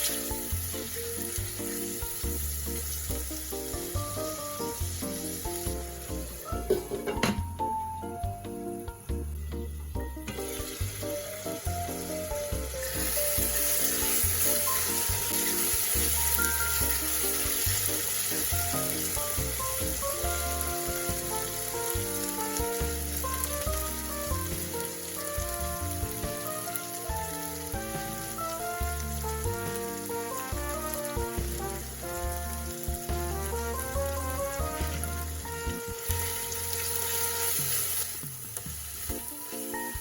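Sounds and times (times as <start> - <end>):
background music: 0.0 - 40.0
food sizzling in hot oil: 0.0 - 40.0.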